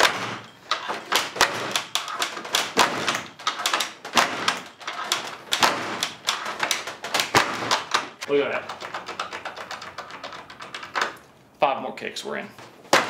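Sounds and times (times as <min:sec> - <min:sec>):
door banging against door guard: 0:00.0 - 0:11.2.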